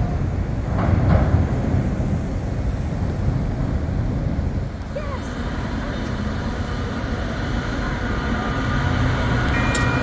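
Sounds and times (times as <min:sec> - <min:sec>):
elevated train rail rumble: 0:00.0 - 0:10.0.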